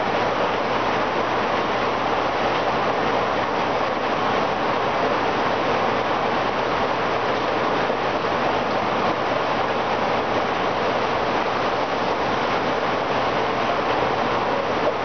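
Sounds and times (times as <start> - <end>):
aquarium water circulation rushing: 0.0 - 15.0.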